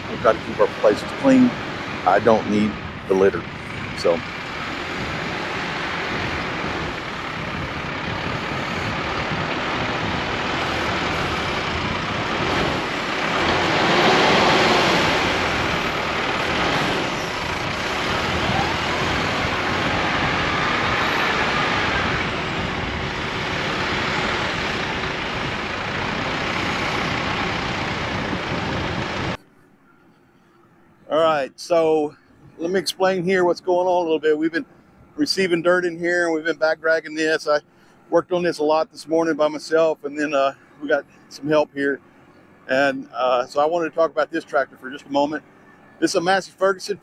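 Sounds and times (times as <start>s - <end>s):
tractor diesel engine under load: 0.0s - 29.4s, 31.1s - 47.0s.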